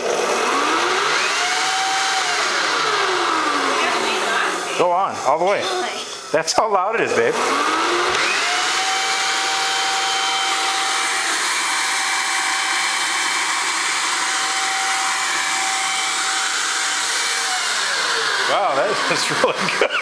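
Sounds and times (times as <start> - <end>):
electric leaf blower whining: 0.0 - 20.0.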